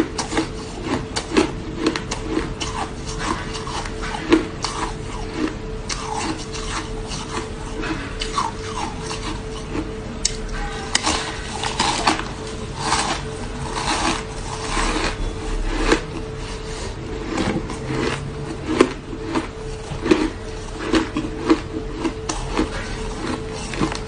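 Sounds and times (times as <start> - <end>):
faint steady hum: 0.0 - 24.0
ice crunching: 0.1 - 24.0.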